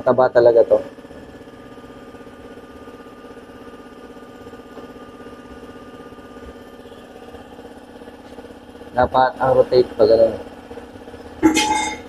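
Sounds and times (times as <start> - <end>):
motor running with fast pulse: 0.0 - 12.0.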